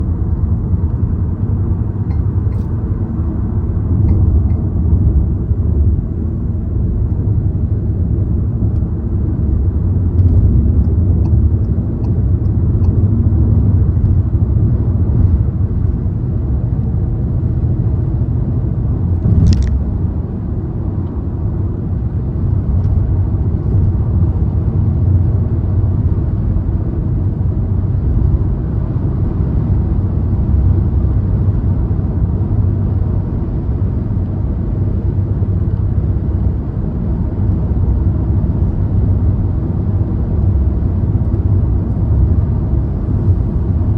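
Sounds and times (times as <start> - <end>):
car tyre and engine rumble: 0.0 - 43.9.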